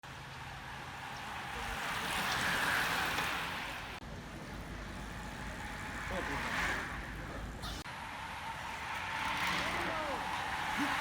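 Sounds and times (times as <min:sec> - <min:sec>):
bicycles passing by: 0:00.0 - 0:11.0.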